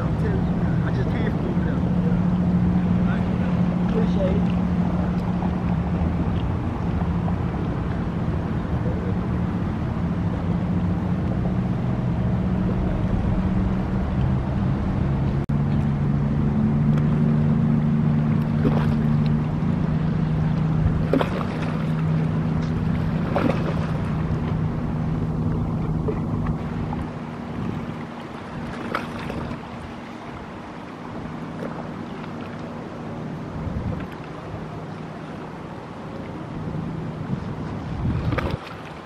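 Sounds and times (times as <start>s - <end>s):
motorboat engines humming: 0.0s - 39.0s.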